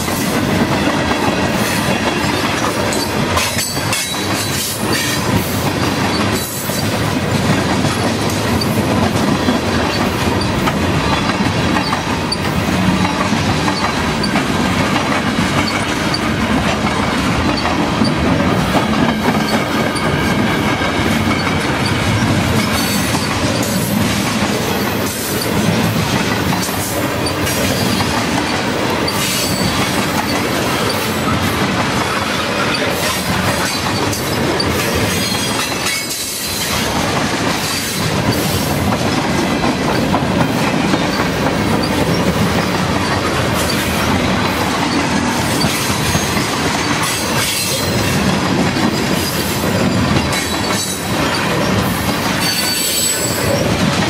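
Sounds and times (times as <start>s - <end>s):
freight train wheels on rails: 0.0s - 54.0s
wheels clacking over rail joints: 0.0s - 54.0s.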